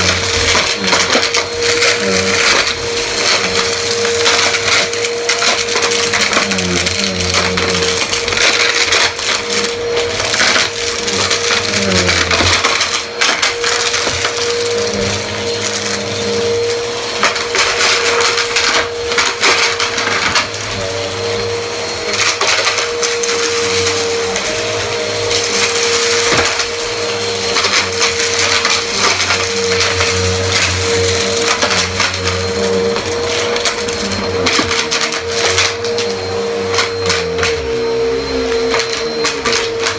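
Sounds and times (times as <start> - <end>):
brushroll crunching debris: 0.0 - 36.2
vacuum cleaner motor whine: 0.0 - 39.9.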